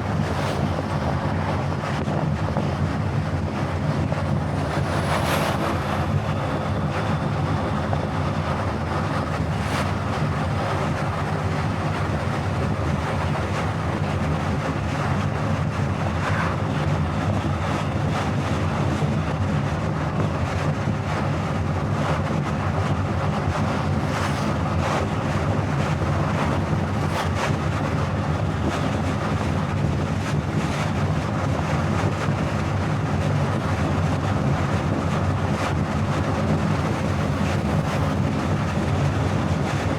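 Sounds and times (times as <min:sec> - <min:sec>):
tyre and wind noise: 0:00.0 - 0:39.9.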